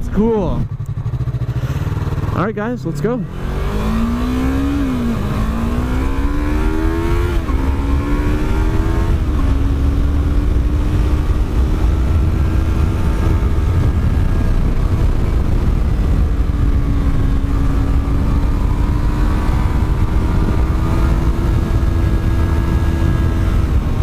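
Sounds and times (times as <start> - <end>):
motorcycle engine accelerating: 0.0 - 24.0
wind noise on microphone: 3.3 - 24.0.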